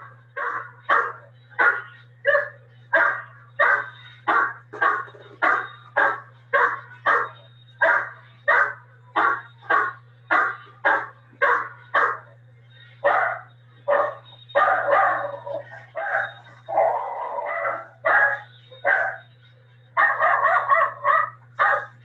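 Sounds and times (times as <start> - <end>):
dog barking: 0.4 - 12.3, 13.0 - 19.3, 20.0 - 22.0.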